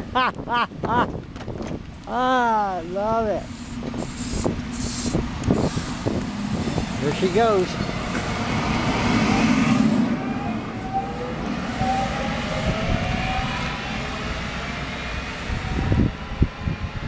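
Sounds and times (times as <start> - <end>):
train rumble: 1.1 - 17.0
electric train drive whining: 2.9 - 17.0.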